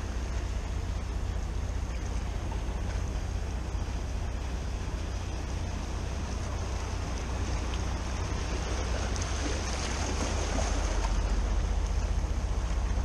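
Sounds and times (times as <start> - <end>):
boat engines rumbling: 0.0 - 13.0
wake washing against rocks: 0.0 - 13.0.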